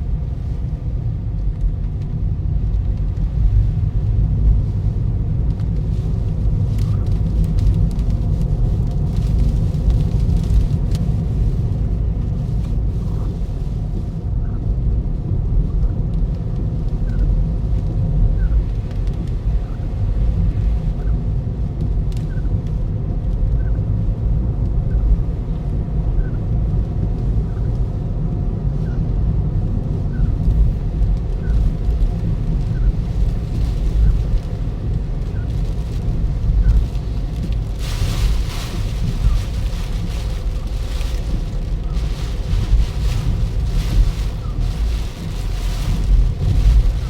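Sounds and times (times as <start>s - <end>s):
car road and engine rumble: 0.0s - 47.0s
rushing hiss of wind or rain: 0.0s - 47.0s.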